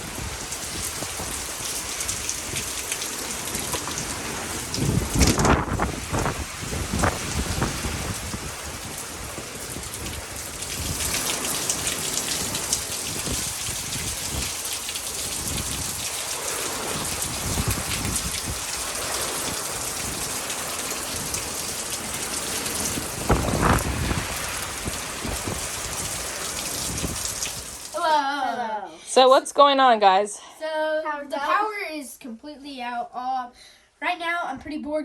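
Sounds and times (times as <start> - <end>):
heavy rain falling: 0.0 - 28.4.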